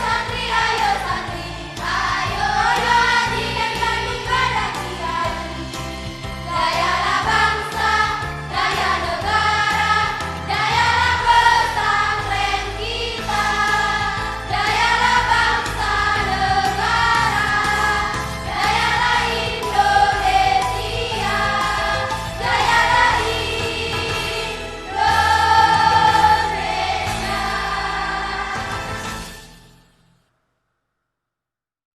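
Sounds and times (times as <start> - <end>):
choir singing in unison: 0.0 - 29.3
instrumental accompaniment: 0.0 - 30.1.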